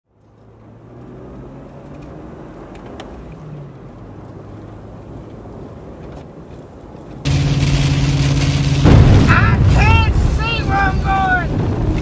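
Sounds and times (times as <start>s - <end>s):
car engine hum: 0.1s - 12.0s.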